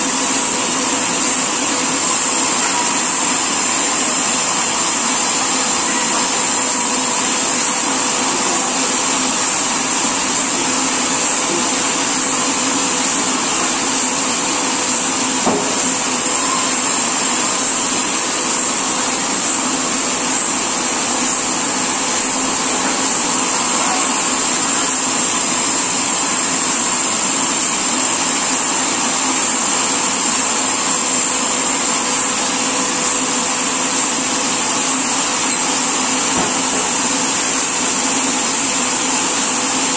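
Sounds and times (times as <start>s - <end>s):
high mechanical whine: 0.0s - 39.9s
sawmill machinery running: 0.0s - 39.9s
steady machine hum: 0.0s - 39.9s.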